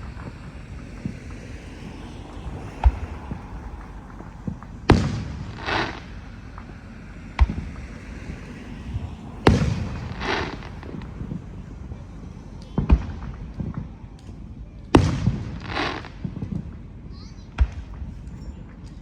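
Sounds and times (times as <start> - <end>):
fireworks hissing bursts: 0.0 - 16.8
fireworks bangs: 0.0 - 18.5.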